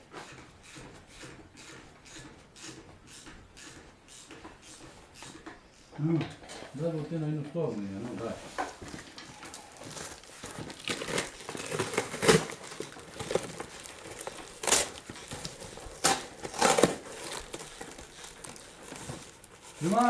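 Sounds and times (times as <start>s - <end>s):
scraping and rustling of hand work: 0.0s - 20.0s.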